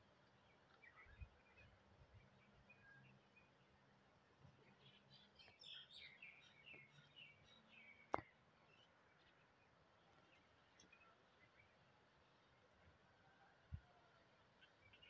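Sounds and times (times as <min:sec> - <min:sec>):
small birds chirping: 0:00.0 - 0:12.6, 0:14.0 - 0:15.0.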